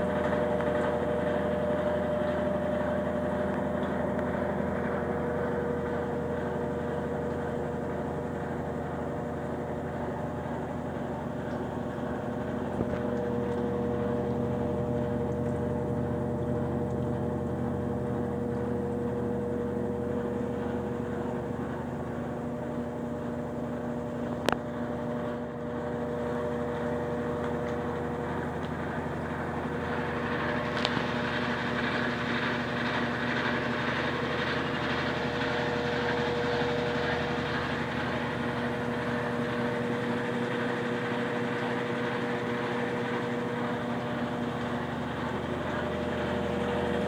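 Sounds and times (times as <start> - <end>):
washing machine running: 0.0 - 47.0.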